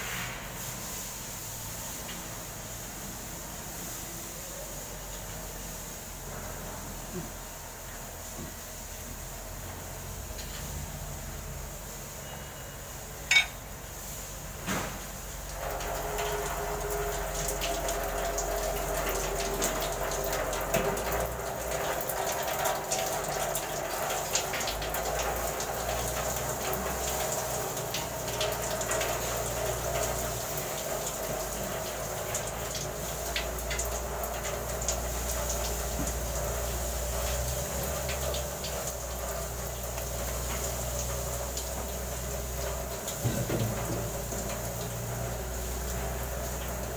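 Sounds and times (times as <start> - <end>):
stream of liquid running: 0.0 - 46.9.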